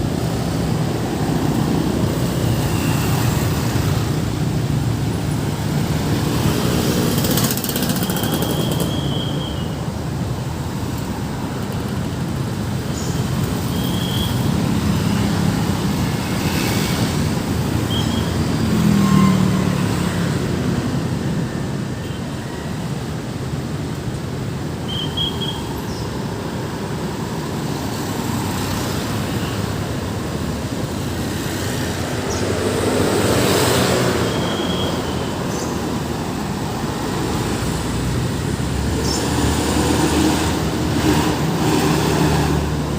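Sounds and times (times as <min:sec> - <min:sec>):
road traffic passing: 0:00.0 - 0:42.9.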